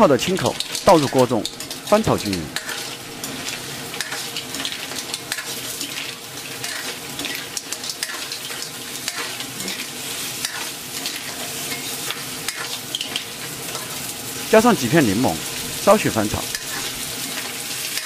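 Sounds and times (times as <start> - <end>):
oil sizzling in a wok: 0.0 - 18.0
spatula and shells scraping pan: 0.3 - 14.5, 16.5 - 18.0.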